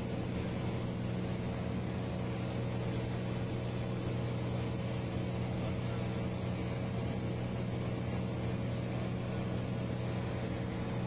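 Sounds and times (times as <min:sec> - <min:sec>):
airflow hiss: 0:00.0 - 0:11.0
light aircraft engine droning: 0:00.0 - 0:11.0.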